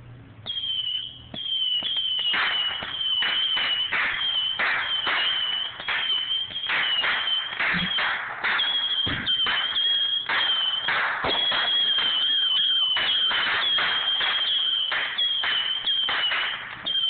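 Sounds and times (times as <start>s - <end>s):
high-pitched whistle: 0.4s - 17.0s
fireworks bangs and crackling: 0.5s - 17.0s.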